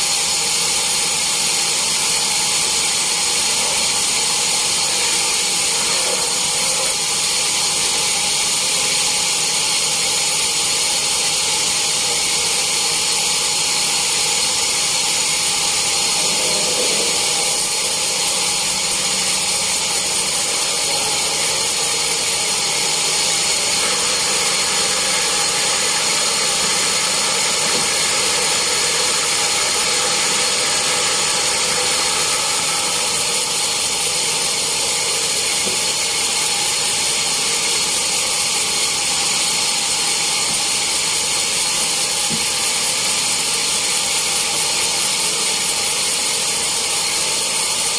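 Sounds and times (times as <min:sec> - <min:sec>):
sawmill saw whining: 0:00.0 - 0:47.9.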